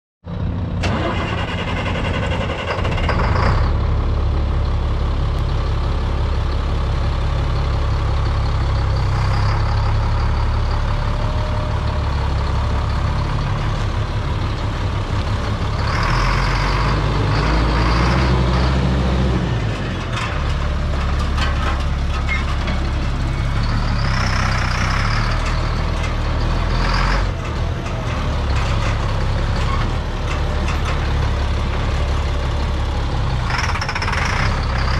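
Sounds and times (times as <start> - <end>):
truck engine idling: 0.3 - 34.9.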